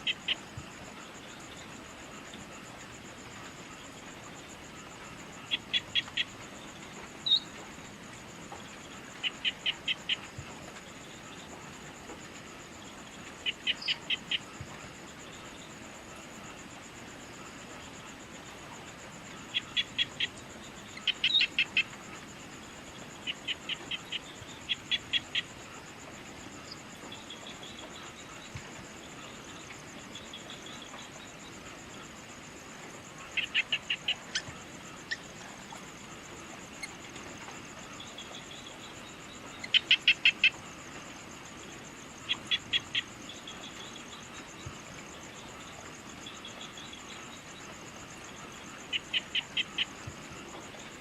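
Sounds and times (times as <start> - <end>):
high insect trill: 0.0 - 51.0.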